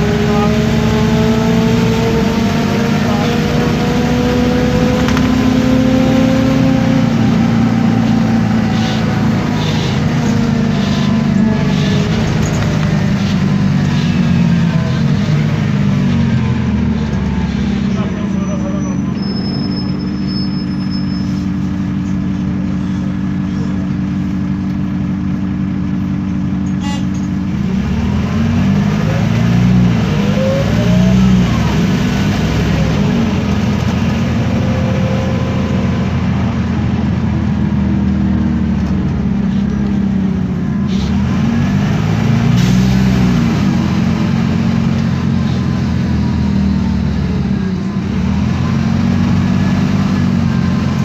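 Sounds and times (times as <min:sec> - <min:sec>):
bus diesel engine: 0:00.0 - 0:51.0.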